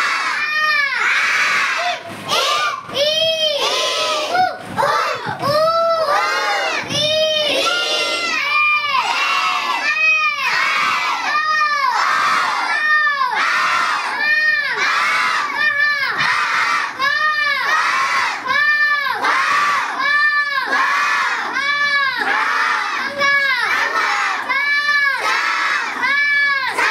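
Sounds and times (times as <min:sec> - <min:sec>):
children chanting in unison: 0:00.0 - 0:26.9.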